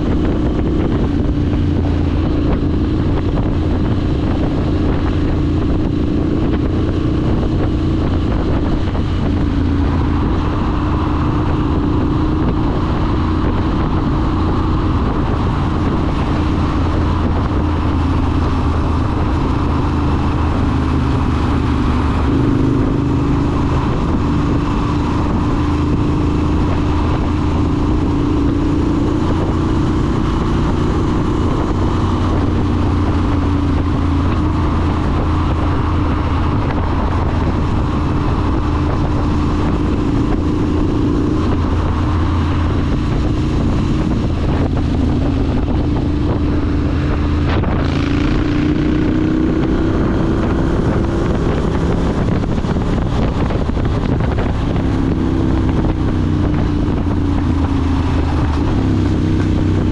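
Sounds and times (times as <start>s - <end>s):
motorcycle engine cruising: 0.0s - 59.9s
road noise: 0.0s - 59.9s.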